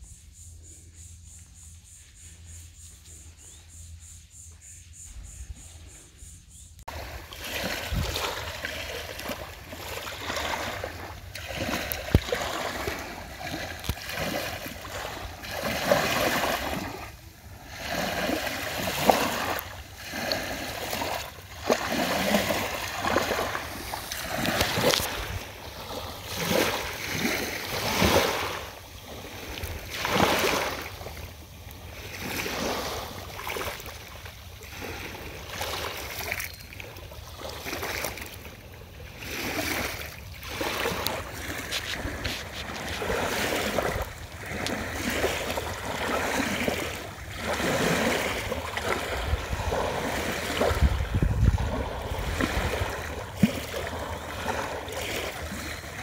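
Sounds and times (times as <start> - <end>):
kayak paddle splashing: 6.9 - 56.0.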